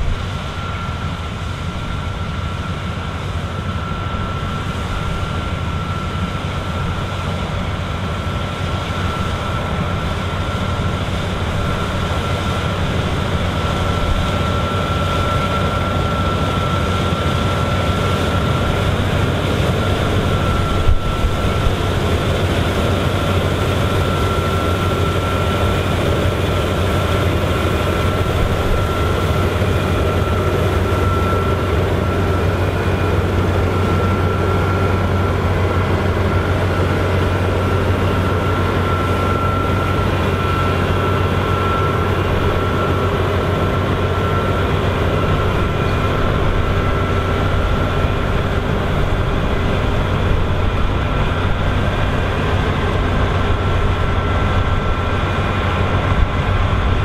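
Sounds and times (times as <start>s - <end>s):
combine harvester drone: 0.0s - 57.0s
high machine whine: 0.0s - 57.0s.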